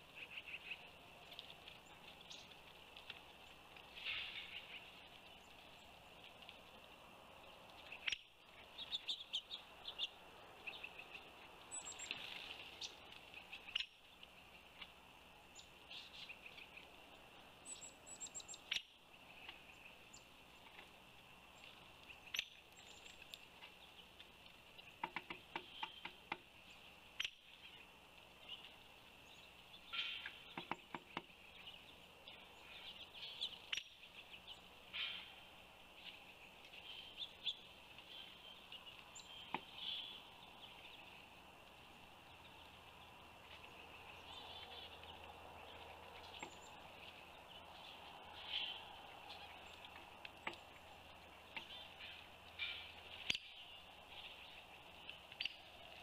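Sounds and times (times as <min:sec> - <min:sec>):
small birds chirping: 0:00.0 - 0:56.0
steady outdoor hiss: 0:00.0 - 0:56.0.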